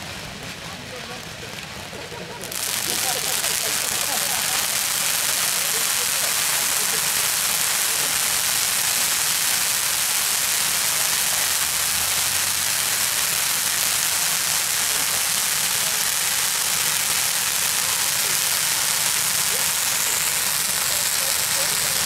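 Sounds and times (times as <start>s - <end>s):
fireworks fountains hissing: 0.0s - 22.0s.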